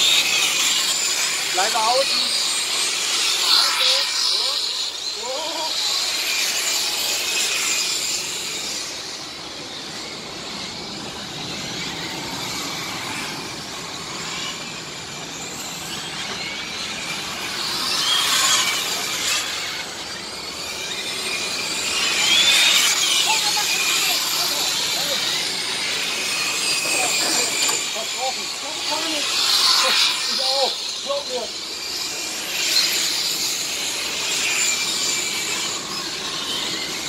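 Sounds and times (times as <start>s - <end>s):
model cars high-pitched motor whine: 0.0s - 37.0s.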